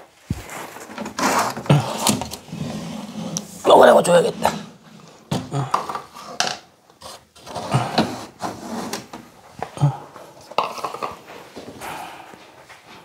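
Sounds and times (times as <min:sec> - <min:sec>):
hard objects knocking and scraping: 0:00.2 - 0:03.6, 0:04.4 - 0:11.5.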